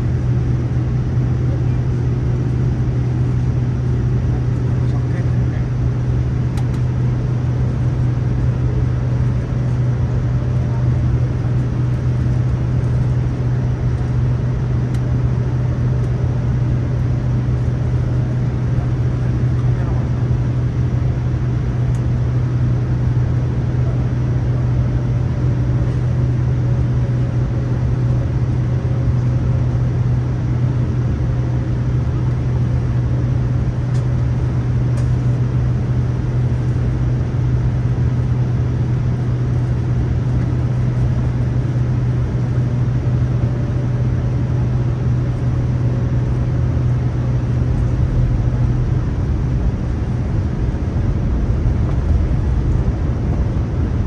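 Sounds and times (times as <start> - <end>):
airplane engine hum: 0.0 - 54.0.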